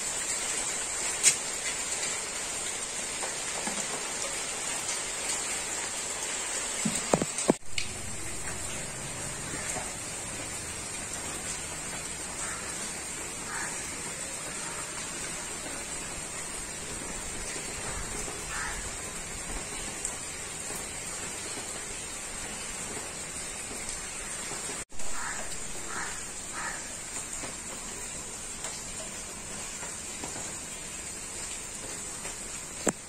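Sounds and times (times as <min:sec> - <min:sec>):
rain on leaves: 0:00.0 - 0:33.0.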